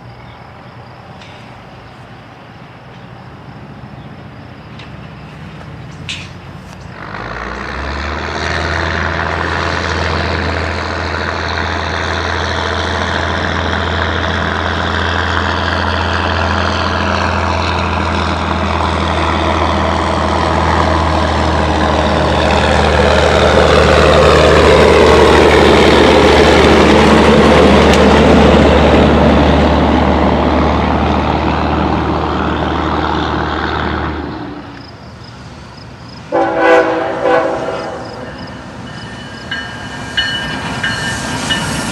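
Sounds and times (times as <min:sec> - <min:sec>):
heavy engine drone: 0:00.0 - 0:41.6.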